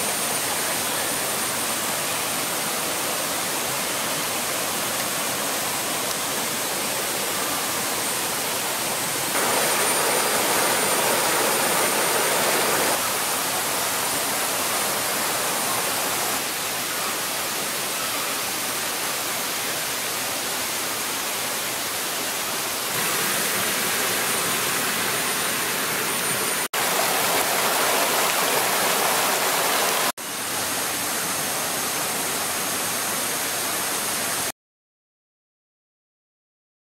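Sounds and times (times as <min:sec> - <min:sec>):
water rushing over rocks: 0:00.0 - 0:17.6, 0:18.9 - 0:34.5.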